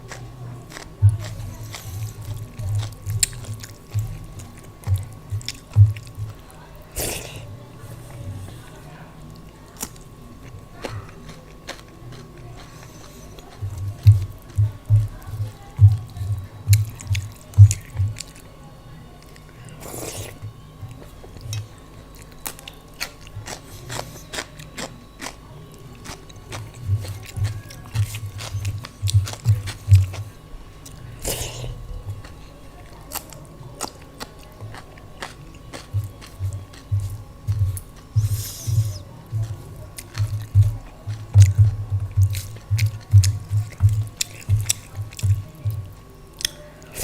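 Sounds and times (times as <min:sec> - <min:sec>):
crunchy chewing: 0:00.0 - 0:47.0.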